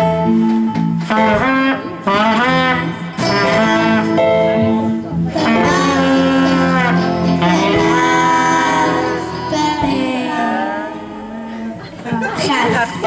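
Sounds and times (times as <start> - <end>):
live band playing: 0.0 - 13.0
woman singing: 2.4 - 13.0.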